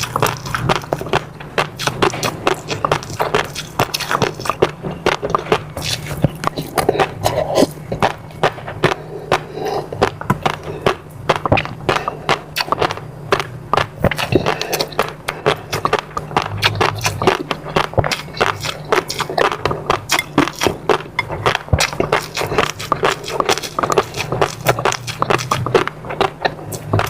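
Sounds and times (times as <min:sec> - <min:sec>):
faint low hum: 0:00.0 - 0:27.0
wet chewing and lip smacks: 0:00.0 - 0:27.0.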